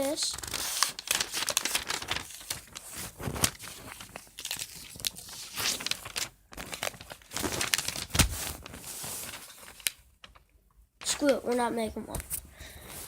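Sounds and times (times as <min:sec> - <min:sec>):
paper crinkling and creasing: 0:00.0 - 0:13.0.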